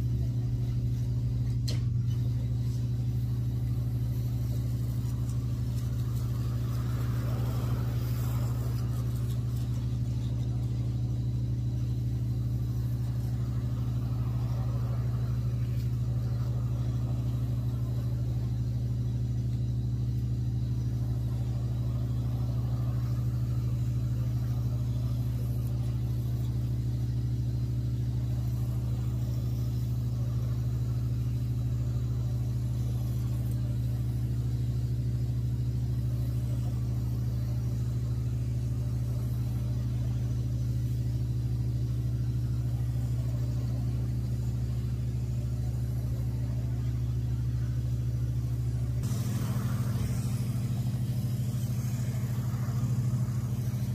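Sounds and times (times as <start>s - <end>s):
carpet cleaning machine humming: 0.0s - 53.9s.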